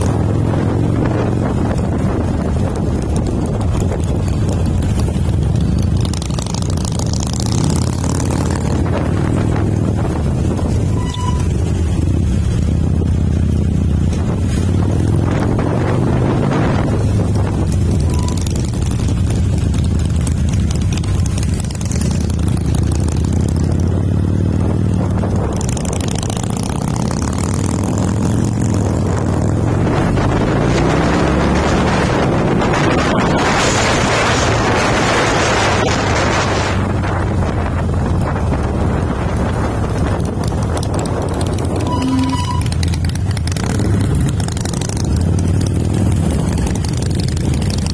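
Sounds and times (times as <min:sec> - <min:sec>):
motorcycle engine running: 0:00.0 - 0:47.9
wind rushing over microphone: 0:00.0 - 0:47.9.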